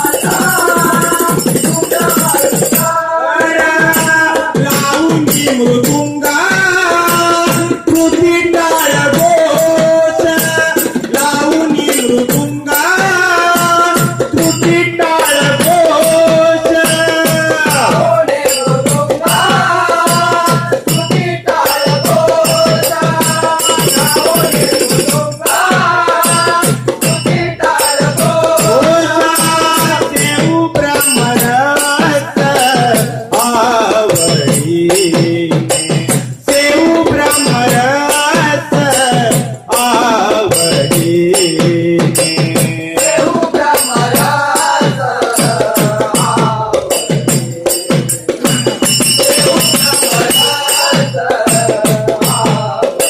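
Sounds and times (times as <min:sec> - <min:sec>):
group singing: 0:00.0 - 0:53.0
hand percussion beat: 0:00.0 - 0:53.0.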